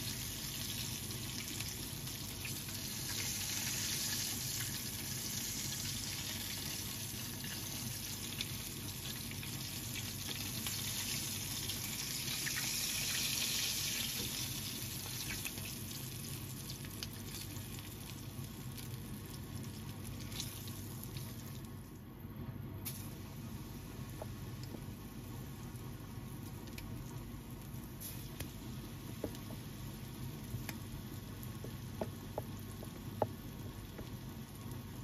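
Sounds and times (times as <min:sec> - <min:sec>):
chicken frying in oil: 0:00.0 - 0:21.9, 0:22.9 - 0:35.0.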